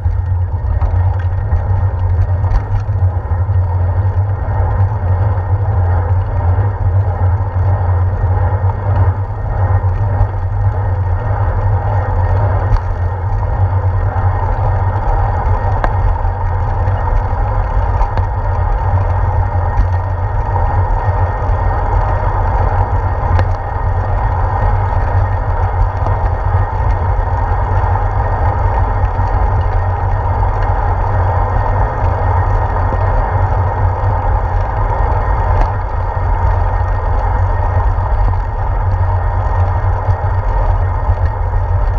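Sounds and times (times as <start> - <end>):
bicycle riding rumble: 0.0 - 41.9
wind: 0.0 - 41.9.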